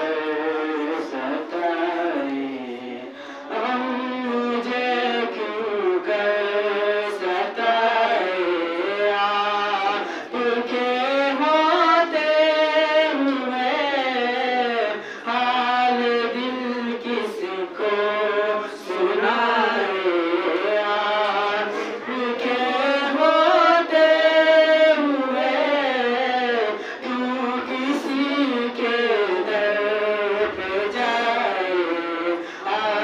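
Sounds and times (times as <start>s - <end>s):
boy chanting devotional song: 0.0s - 33.0s.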